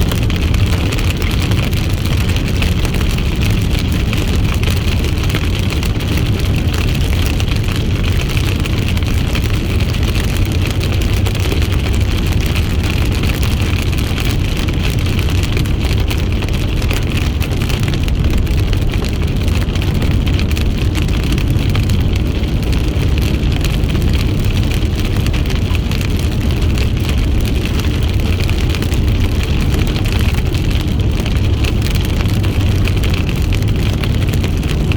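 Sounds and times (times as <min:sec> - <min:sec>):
low car engine rumble: 0:00.0 - 0:34.9
road and tyre noise: 0:00.0 - 0:34.9.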